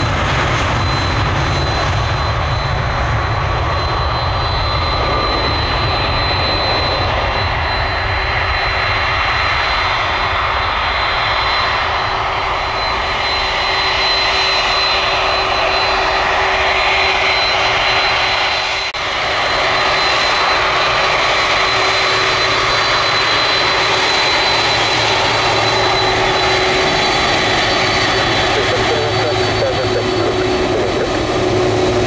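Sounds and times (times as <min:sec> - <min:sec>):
jet engines whining and roaring: 0:00.0 - 0:32.0.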